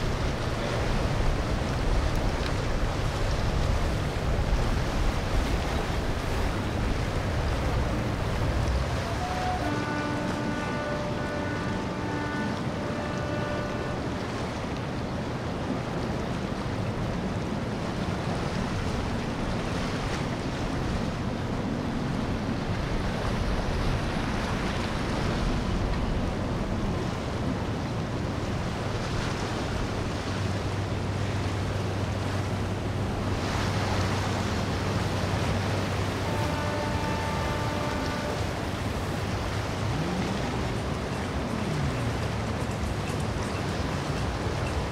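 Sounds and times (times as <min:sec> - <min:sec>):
boat engines running: 0:00.0 - 0:44.9
rushing churning water: 0:00.0 - 0:44.9.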